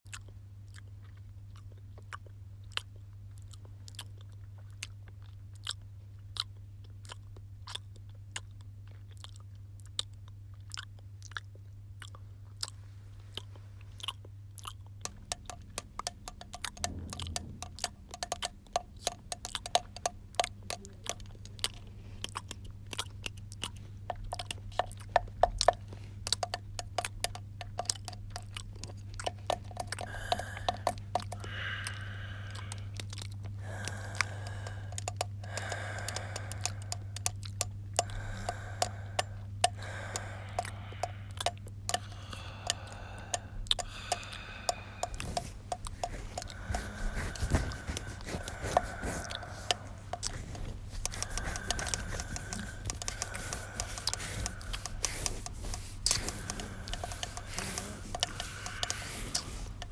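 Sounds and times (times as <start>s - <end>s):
person chewing noisily: 0.1s - 59.9s
steady low hum: 0.1s - 59.9s.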